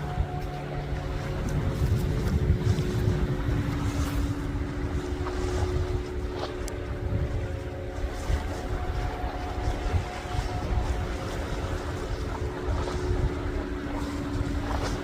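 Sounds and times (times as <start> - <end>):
motor droning: 0.0 - 15.0
wind rumbling on microphone: 0.0 - 15.0.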